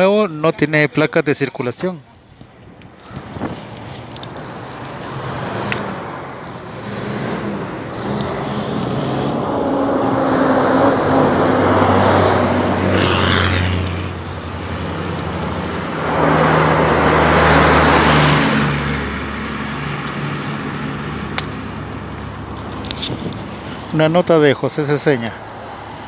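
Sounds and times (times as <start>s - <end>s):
vehicles passing on highway: 0.0s - 26.0s.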